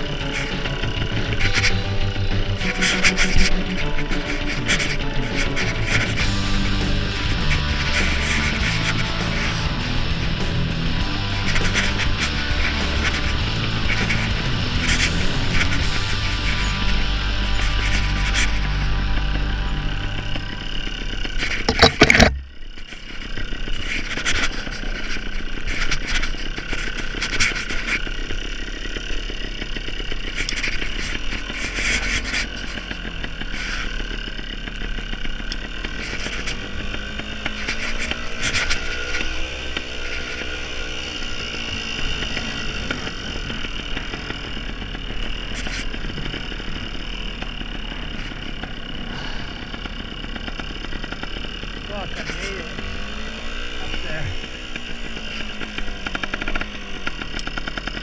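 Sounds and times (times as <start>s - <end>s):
bike knocking and scraping on rocks: 0.0s - 18.8s, 20.6s - 58.0s
dirt bike engine running: 0.0s - 58.0s.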